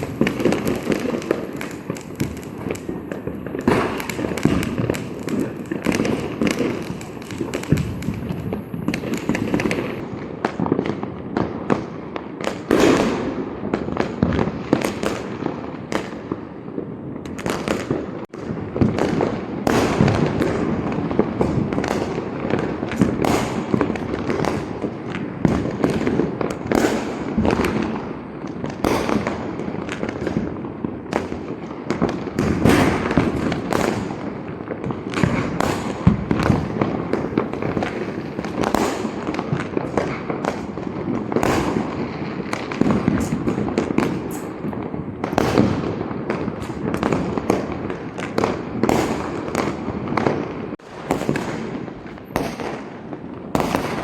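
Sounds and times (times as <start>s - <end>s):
fireworks and firecrackers bangs: 0.0s - 54.0s.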